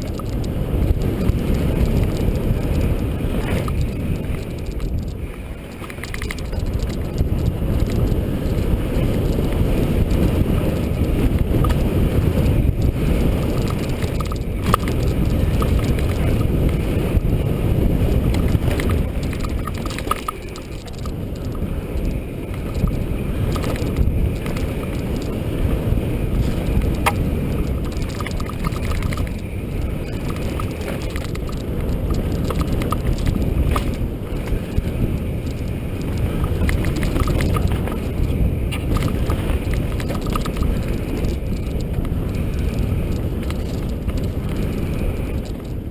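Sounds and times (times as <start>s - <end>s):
bike rattles and clicks: 0.0s - 45.9s
wind and tyres rumbling: 0.0s - 45.9s.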